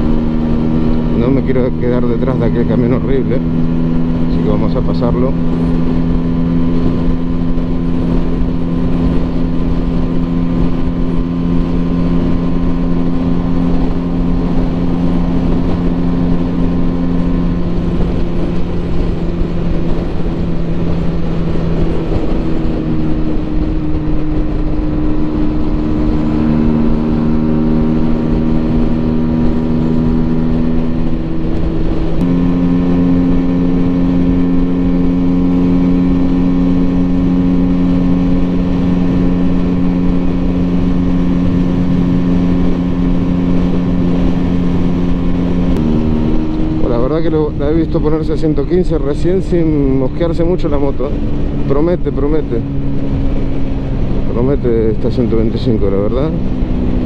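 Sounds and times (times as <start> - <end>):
motorcycle engine cruising: 0.0 - 57.0
wind rushing: 5.3 - 57.0.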